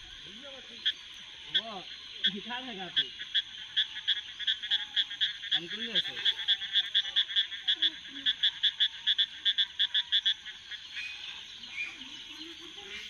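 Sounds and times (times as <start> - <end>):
frog croaking: 0.0 - 13.0.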